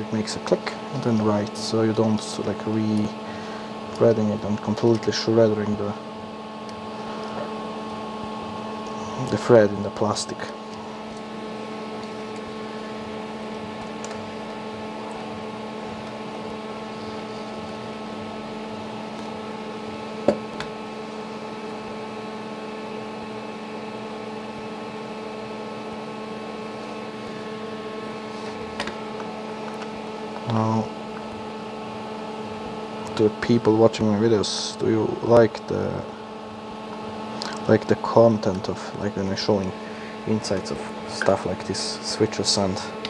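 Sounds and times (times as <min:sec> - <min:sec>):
steady hum with pitched tones: 0:00.0 - 0:43.0.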